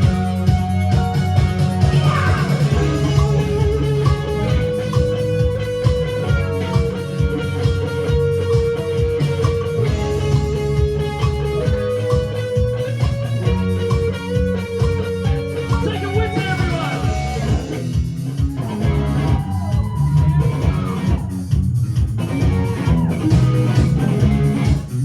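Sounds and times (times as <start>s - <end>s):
electric guitar: 0.0s - 25.0s
live rock band playing: 0.0s - 25.0s.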